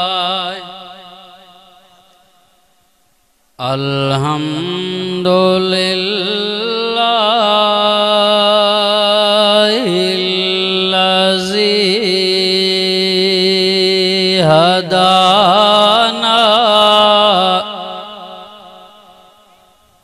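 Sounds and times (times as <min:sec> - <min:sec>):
man chanting over loudspeaker: 0:00.0 - 0:02.6, 0:03.6 - 0:20.0.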